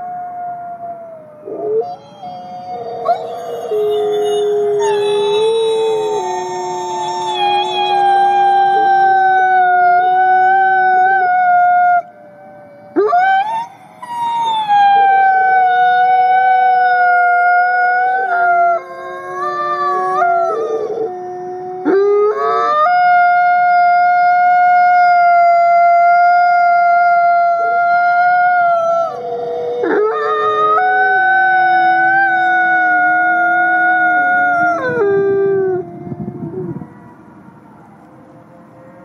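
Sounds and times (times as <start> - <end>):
wolf howling: 0.0 - 37.2.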